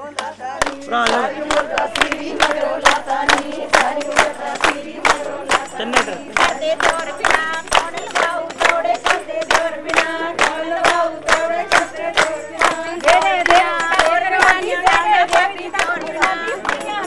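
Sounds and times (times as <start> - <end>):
rhythmic handclapping: 0.0 - 17.0
women singing together: 0.0 - 17.0.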